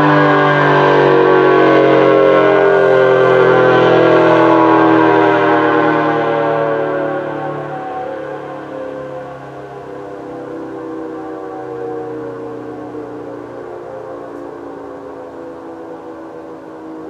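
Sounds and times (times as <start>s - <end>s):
outdoor warning siren: 0.0s - 17.0s.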